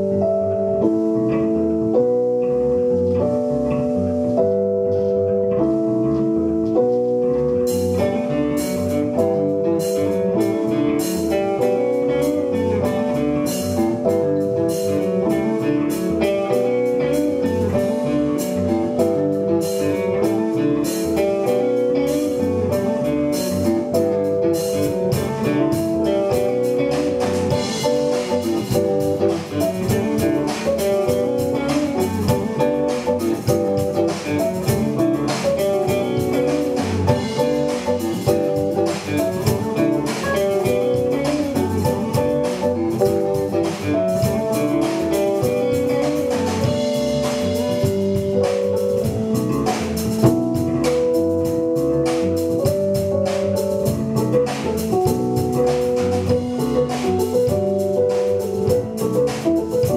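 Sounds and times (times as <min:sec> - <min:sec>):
electric guitars picking melodies: 0:00.0 - 0:59.9
drum kit steady beat: 0:03.0 - 0:59.9.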